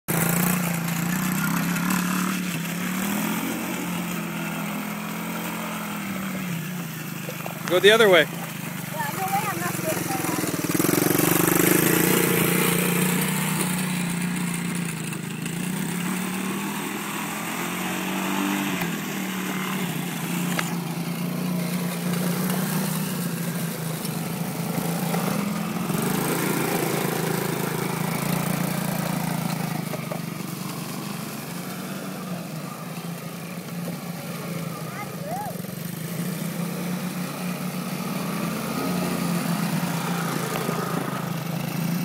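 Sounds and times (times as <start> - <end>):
quad engine revving: 0.1 - 42.0.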